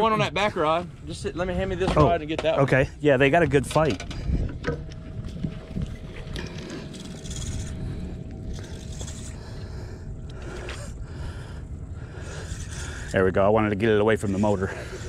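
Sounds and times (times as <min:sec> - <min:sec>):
faint steady whine: 0:00.0 - 0:15.0
low rumble: 0:00.0 - 0:15.0.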